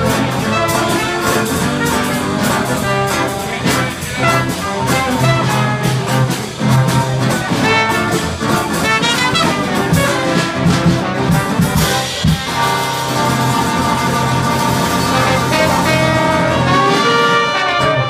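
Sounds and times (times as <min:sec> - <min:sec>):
funk band playing: 0:00.0 - 0:18.0
trumpet and trombone horn line: 0:00.0 - 0:18.0.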